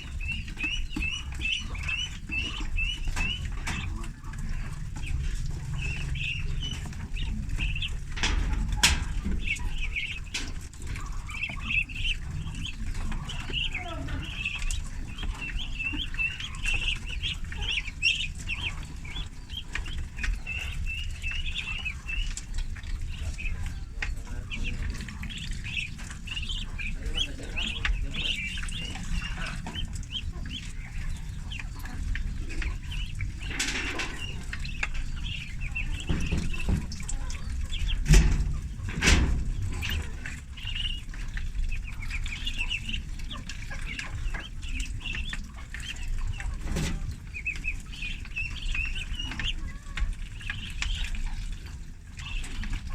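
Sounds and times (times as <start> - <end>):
ducklings peeping: 0.0 - 52.9.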